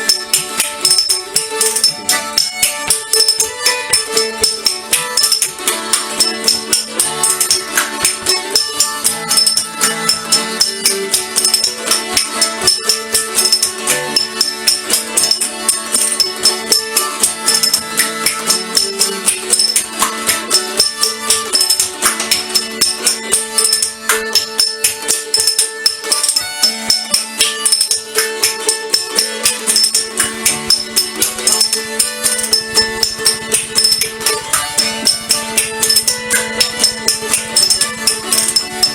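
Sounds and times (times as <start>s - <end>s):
fast percussive beat: 0.0s - 38.9s.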